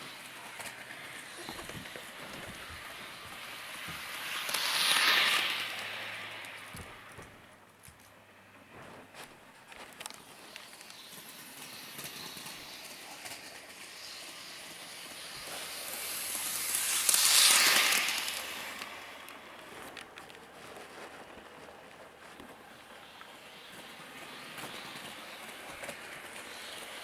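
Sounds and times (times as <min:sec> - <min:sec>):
train passing on track: 0:00.0 - 0:27.0.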